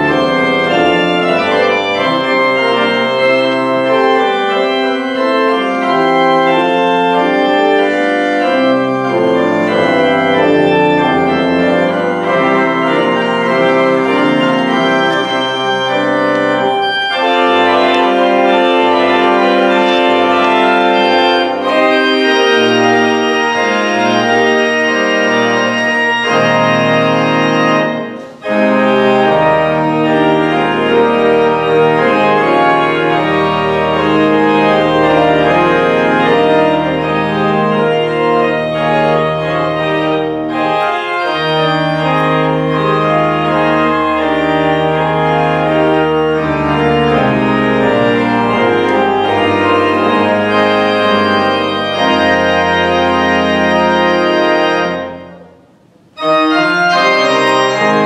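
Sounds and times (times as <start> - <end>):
pipe organ chords: 0.0 - 58.0.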